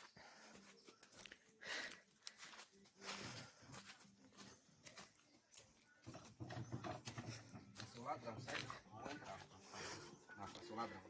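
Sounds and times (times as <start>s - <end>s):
footsteps through undergrowth: 0.0s - 6.1s, 7.0s - 10.7s.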